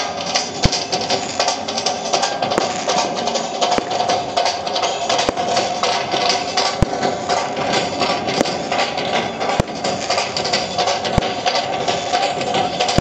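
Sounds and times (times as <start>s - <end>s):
firework shells bursting: 0.0s - 13.0s
fireworks crackling: 0.0s - 13.0s.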